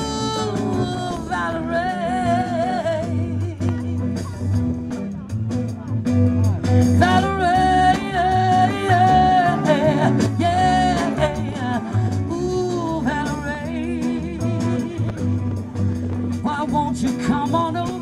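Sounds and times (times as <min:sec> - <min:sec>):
drum kit: 0:00.0 - 0:18.0
electric guitars: 0:00.0 - 0:18.0.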